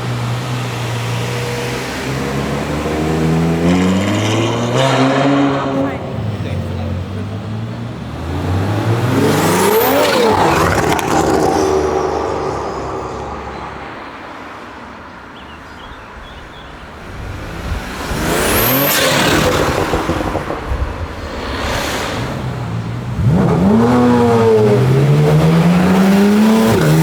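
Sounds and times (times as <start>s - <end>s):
cars driving past: 0.0s - 27.0s.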